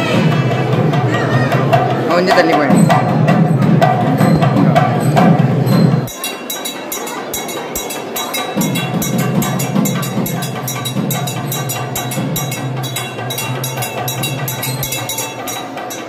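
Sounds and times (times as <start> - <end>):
temple music with drumming: 0.0 - 16.0
hand bell ringing rapidly: 2.6 - 16.0.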